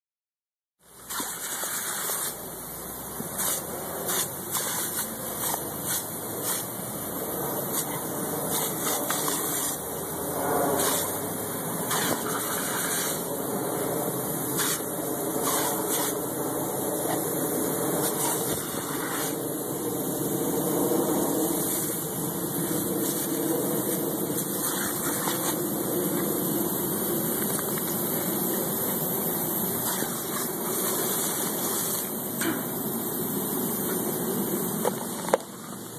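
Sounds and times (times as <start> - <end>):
sprinkler jet hissing: 0.8 - 35.9.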